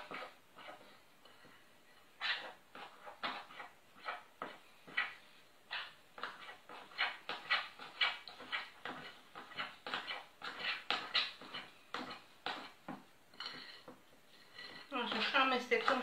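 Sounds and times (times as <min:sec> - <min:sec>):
hand mixing dough in glass bowl: 0:00.0 - 0:16.0.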